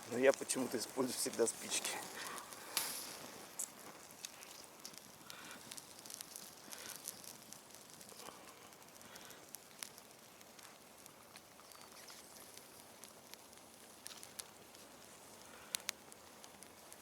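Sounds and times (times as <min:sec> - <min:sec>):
campfire crackling: 0:00.0 - 0:17.0
fire popping: 0:00.0 - 0:17.0
low fire hiss: 0:00.0 - 0:17.0.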